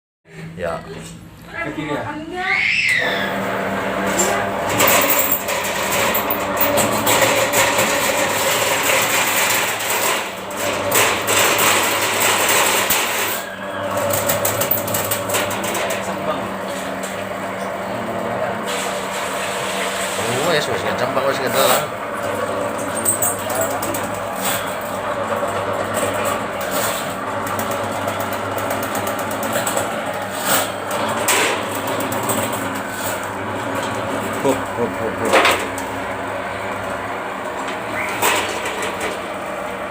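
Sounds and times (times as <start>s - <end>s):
steady motor hum: 0.3s - 39.9s
drain-cleaning machine rattling: 3.0s - 39.9s.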